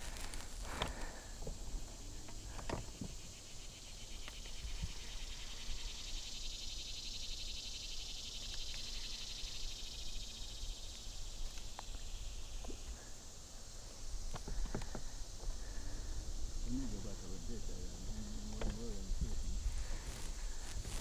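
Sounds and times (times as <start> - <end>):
insect chorus pulsing: 0.0 - 21.0.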